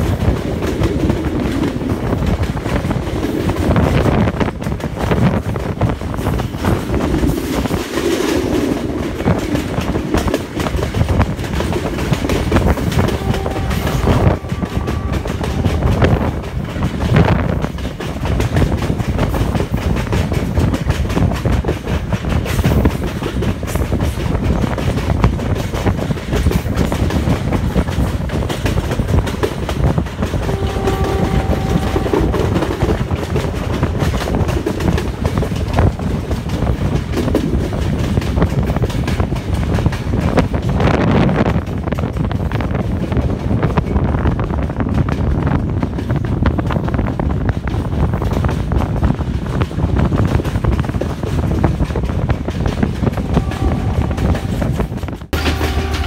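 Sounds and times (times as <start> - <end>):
train rushing at speed: 0.0 - 56.0
wheels clacking over rail joints: 0.0 - 56.0.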